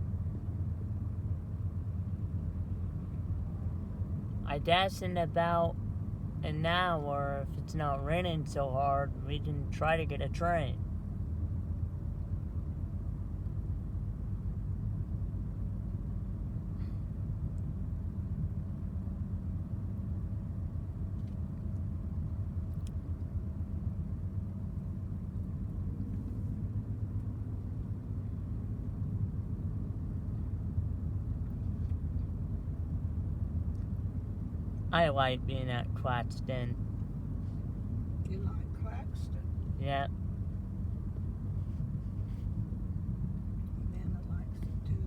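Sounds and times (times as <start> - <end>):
car road and engine rumble: 0.0 - 45.0
faint steady hum: 0.0 - 45.0.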